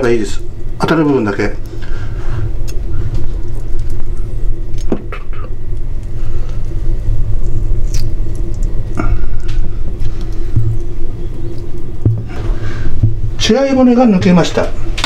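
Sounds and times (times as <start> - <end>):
constant hum: 0.0 - 15.0
low rumble: 0.0 - 15.0.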